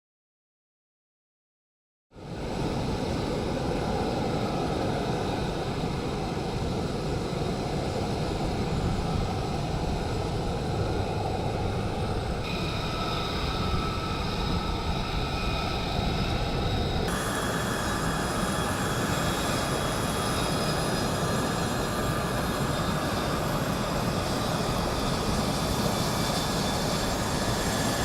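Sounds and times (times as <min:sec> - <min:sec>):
high-pitched engine whine: 0:02.2 - 0:28.0
jet engine running: 0:02.2 - 0:28.0.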